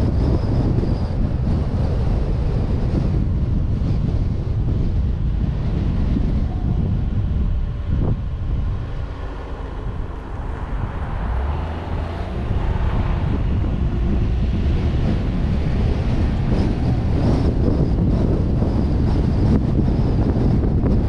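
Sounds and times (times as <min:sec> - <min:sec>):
car driving rumble: 0:00.0 - 0:21.0
wind buffeting microphone: 0:00.0 - 0:21.0.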